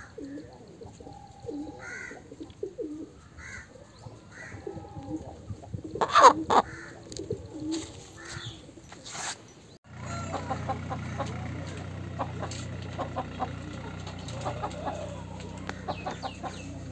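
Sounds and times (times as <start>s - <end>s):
chickens clucking: 0.0s - 8.9s, 9.9s - 16.9s.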